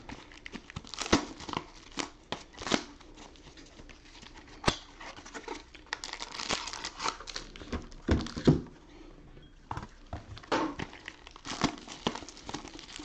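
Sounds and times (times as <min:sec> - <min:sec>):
plastic wrapping crinkling and tearing: 0:00.0 - 0:08.6, 0:10.4 - 0:13.0.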